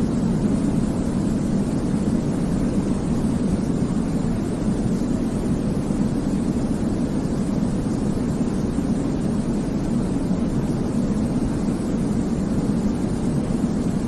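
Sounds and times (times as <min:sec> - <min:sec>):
deep white noise rumble: 0:00.0 - 0:14.0.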